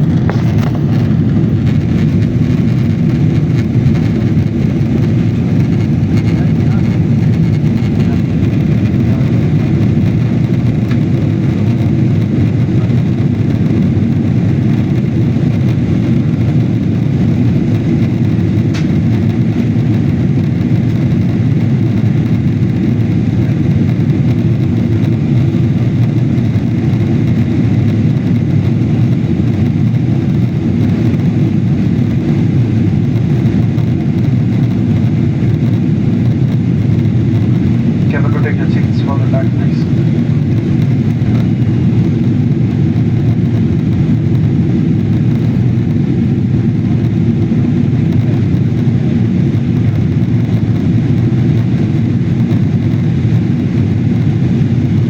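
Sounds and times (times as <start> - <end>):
airliner engines and airflow rumble: 0.0 - 55.0.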